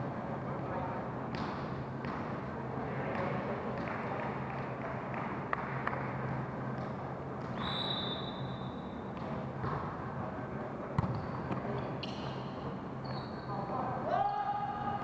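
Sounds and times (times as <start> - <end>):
reverberant gym ambience: 0.0 - 15.0.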